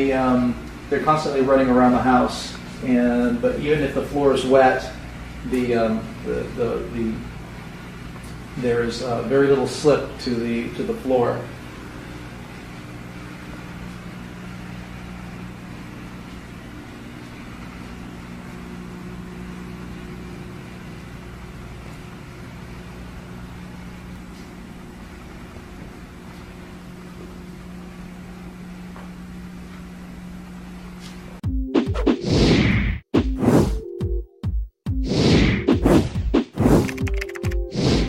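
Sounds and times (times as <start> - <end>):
motor humming: 0.0 - 31.4.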